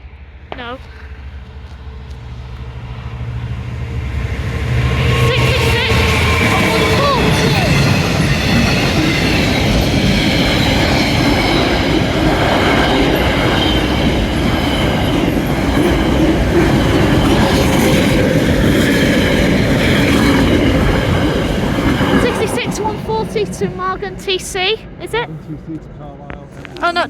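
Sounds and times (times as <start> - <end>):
freight train passing: 0.0 - 27.0.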